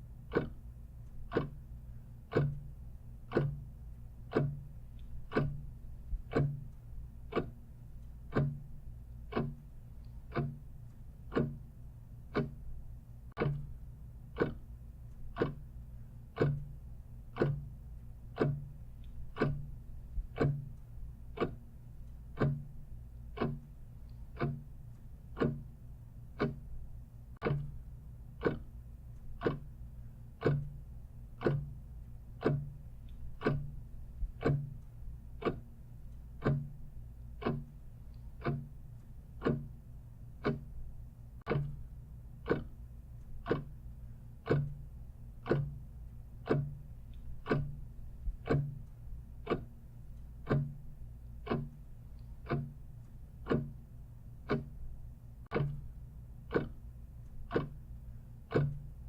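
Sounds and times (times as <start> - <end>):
clock ticking: 0.0 - 59.0
low steady hum: 0.0 - 59.0.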